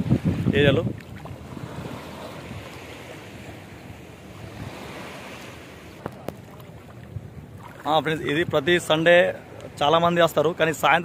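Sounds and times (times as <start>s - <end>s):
wind on microphone: 0.0s - 9.8s
small waves washing: 0.0s - 11.0s.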